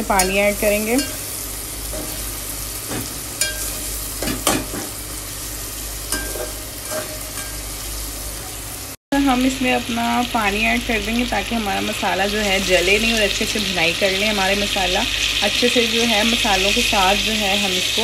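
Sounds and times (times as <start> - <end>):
masala sizzling in hot oil: 0.0 - 18.0.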